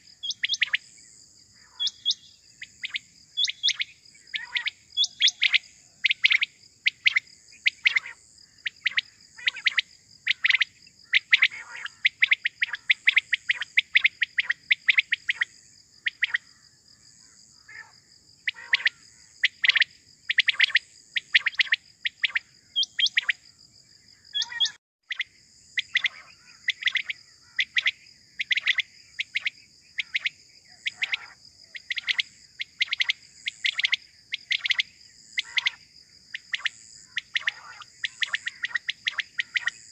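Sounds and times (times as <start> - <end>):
quails chirping: 0.0 - 0.8, 1.7 - 8.1, 8.9 - 15.5, 19.6 - 23.4, 24.4 - 30.3, 30.9 - 35.8, 36.4 - 39.9
high insect trill: 0.0 - 39.9.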